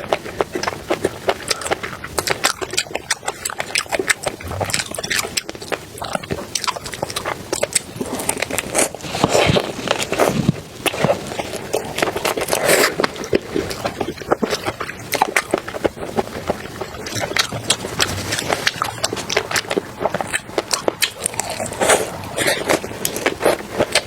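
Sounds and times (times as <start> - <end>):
close chewing and crunching: 0.0 - 24.0.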